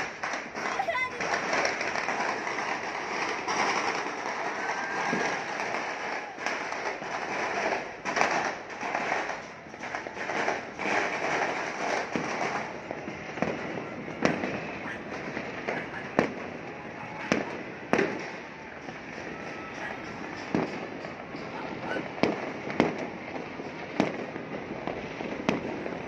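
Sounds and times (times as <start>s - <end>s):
firecracker bangs: 0.0s - 26.0s
fireworks crackling: 0.0s - 26.0s.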